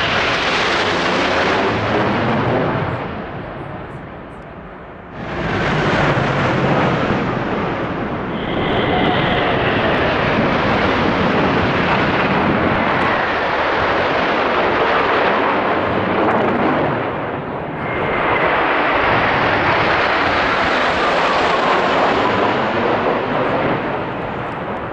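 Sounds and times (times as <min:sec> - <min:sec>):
jet engine whines falling in pitch: 0:00.0 - 0:04.2, 0:05.1 - 0:24.9
military aircraft flying overhead: 0:00.0 - 0:24.9.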